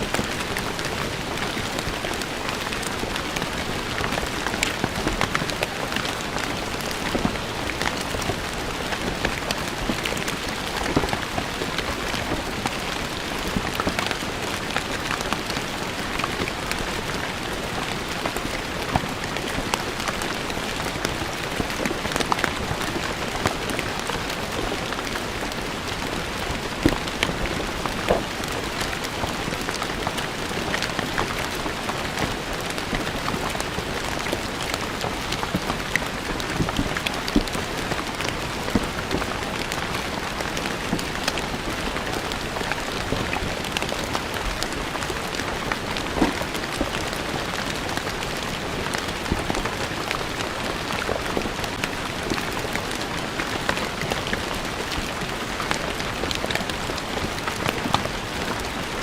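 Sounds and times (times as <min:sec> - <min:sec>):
raindrop splashes: 0:00.0 - 0:58.9
rain on stone paving: 0:00.0 - 0:59.0.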